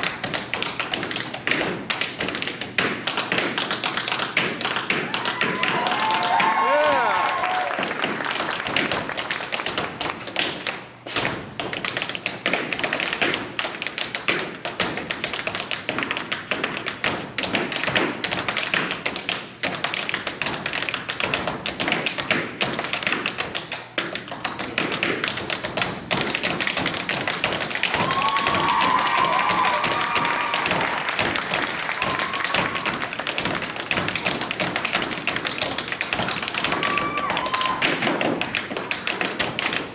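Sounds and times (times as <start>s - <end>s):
tap shoes on wooden stage: 0.0s - 39.9s.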